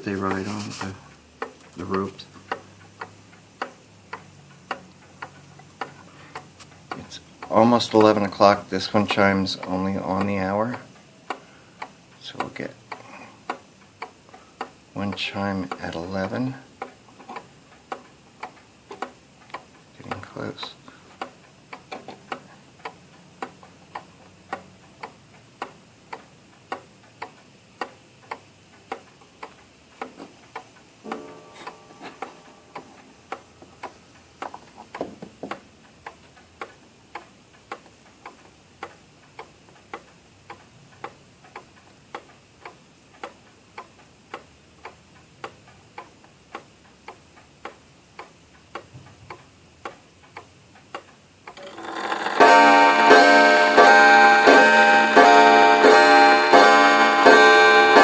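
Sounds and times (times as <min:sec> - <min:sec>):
clock ticking: 0:00.0 - 0:58.0.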